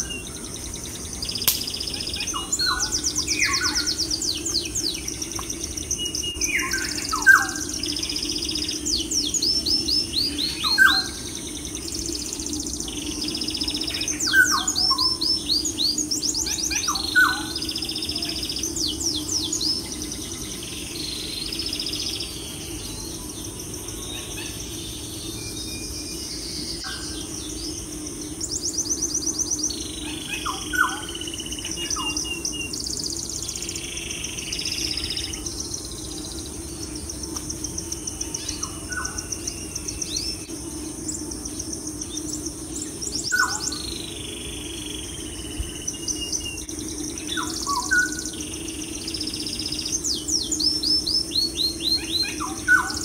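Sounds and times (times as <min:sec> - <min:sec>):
birds chirping and trilling: 0:00.0 - 0:53.0
steady low hum: 0:00.0 - 0:53.0.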